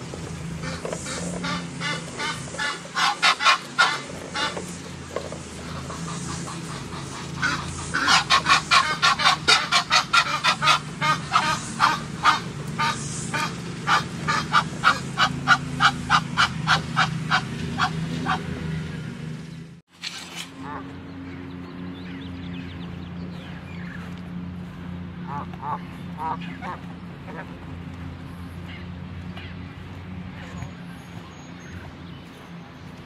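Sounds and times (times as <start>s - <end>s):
geese honking: 0.0s - 19.2s, 20.2s - 21.5s, 23.4s - 32.5s.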